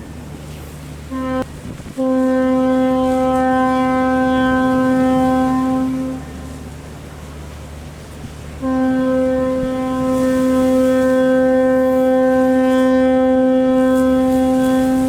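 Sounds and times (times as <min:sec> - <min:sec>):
ship's horn blast: 0:00.0 - 0:15.0.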